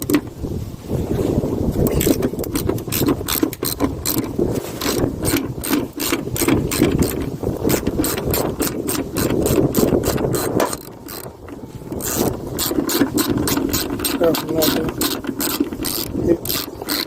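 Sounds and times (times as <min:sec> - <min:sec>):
socket ratchet clicking: 0:01.9 - 0:17.0.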